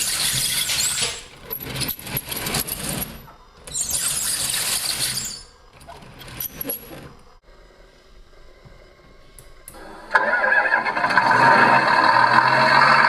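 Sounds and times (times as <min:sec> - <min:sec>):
toy bulldozer hissing and whirring: 0:00.0 - 0:07.4, 0:09.7 - 0:13.0.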